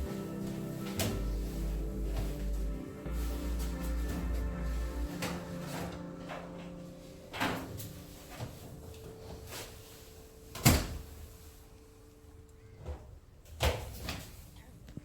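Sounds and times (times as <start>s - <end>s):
faint steady hum: 0.0s - 13.5s.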